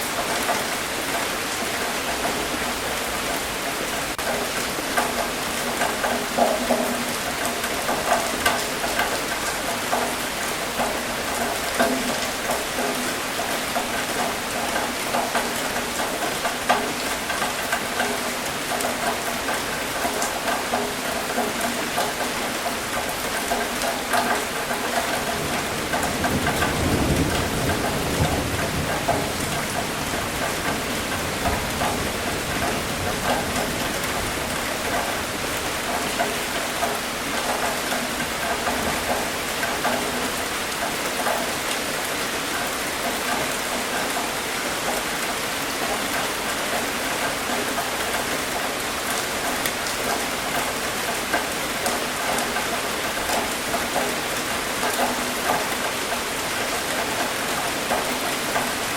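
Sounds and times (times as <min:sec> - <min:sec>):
rain on a hard surface: 0:00.0 - 0:58.9.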